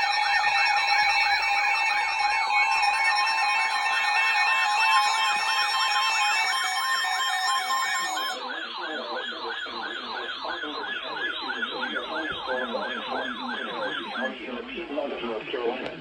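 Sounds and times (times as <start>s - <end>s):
electronic tone stepping pitch: 0.0s - 14.3s
electronic siren yelping: 0.0s - 14.4s.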